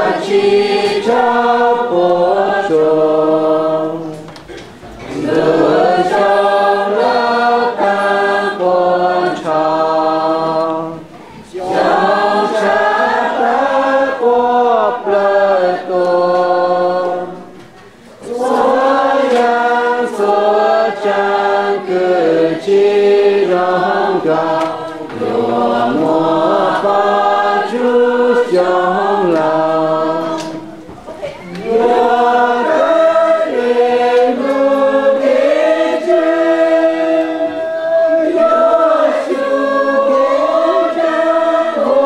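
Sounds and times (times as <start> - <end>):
congregation singing a hymn: 0.0 - 42.0.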